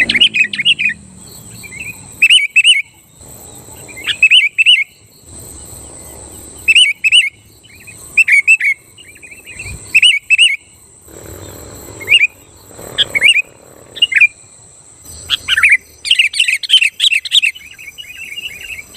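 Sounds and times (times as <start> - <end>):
bulbul calling and chattering: 0.0 - 18.9.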